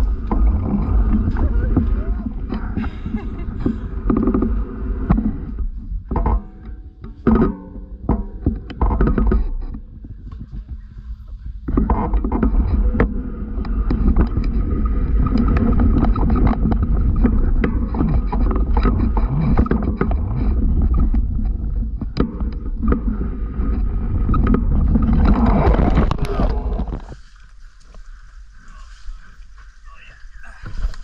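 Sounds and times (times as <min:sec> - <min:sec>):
bike rattling and knocking: 0:00.0 - 0:27.2
wind and motion rumble: 0:00.0 - 0:31.0.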